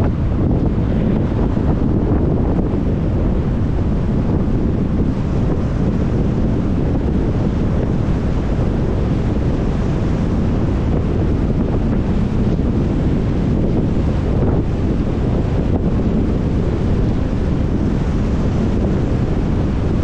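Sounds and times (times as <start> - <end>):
tyre and wind noise: 0.0 - 20.0.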